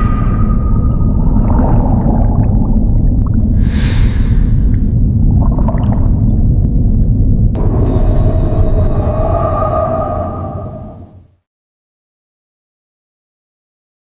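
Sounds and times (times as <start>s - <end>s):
deep rumbling drone: 0.0s - 11.4s.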